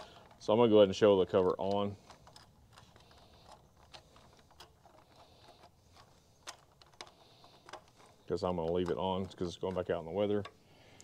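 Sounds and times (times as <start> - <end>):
faint clicks of wires handled: 0.0 - 11.0.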